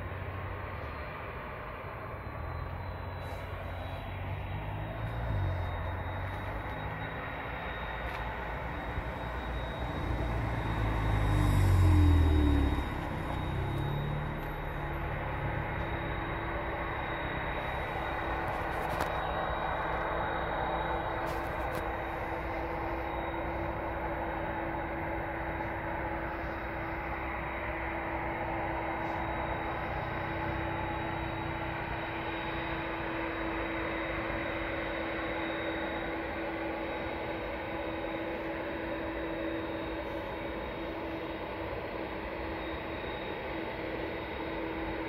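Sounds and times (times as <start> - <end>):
distant jet engines humming: 0.0 - 45.0
high engine whine: 0.0 - 45.0.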